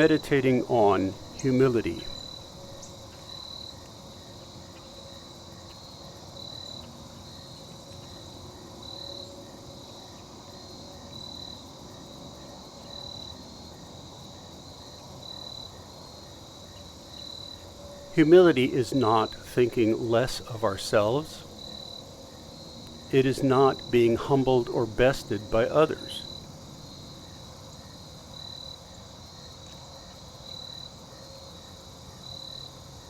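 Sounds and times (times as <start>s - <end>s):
insects chirping: 0.0s - 33.0s
outdoor background hiss: 0.0s - 33.0s.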